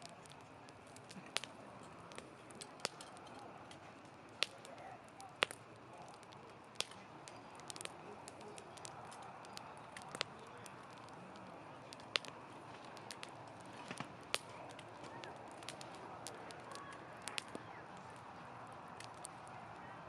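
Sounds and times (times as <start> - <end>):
campfire crackling and popping: 0.0 - 20.0
fire hissing: 0.0 - 20.0.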